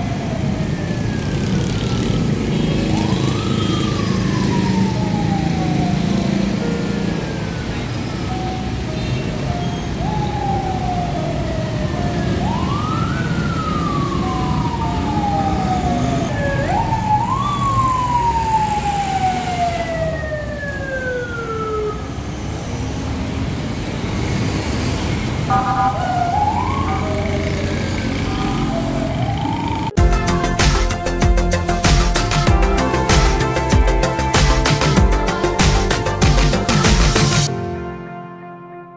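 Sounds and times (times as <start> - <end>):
siren wailing: 0.0 - 23.2, 25.5 - 37.8
low traffic rumble: 0.0 - 37.2.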